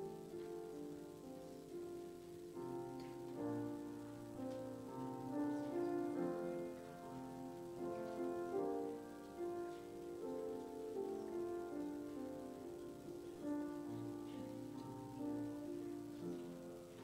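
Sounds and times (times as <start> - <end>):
slow keyboard chords: 0.0 - 17.0.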